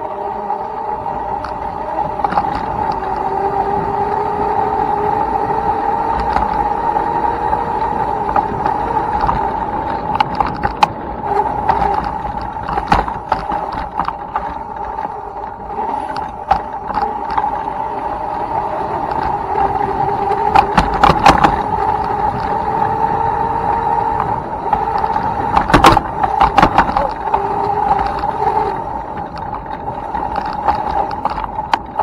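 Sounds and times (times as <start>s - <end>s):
bike rattling over rough ground: 0.0s - 32.0s
electric motor whining: 0.0s - 32.0s.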